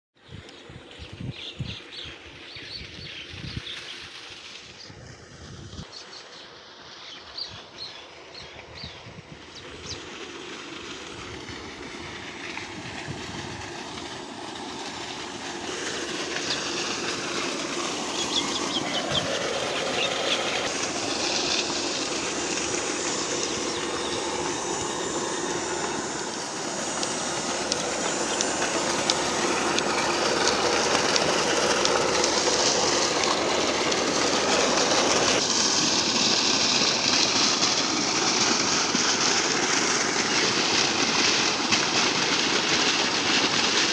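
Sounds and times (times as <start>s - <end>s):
electric water pump running: 0.2s - 43.9s
water gushing from pipe: 0.6s - 43.9s.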